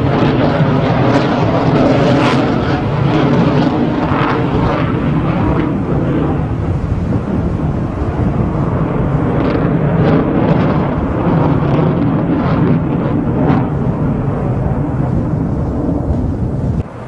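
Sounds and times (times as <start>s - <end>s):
jet engine crackles: 0.0s - 17.0s
loud jet noise: 0.0s - 17.0s.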